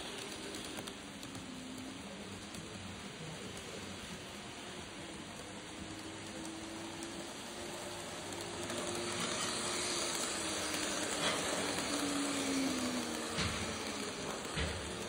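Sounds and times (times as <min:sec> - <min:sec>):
model train hissing rush: 0:00.0 - 0:15.0.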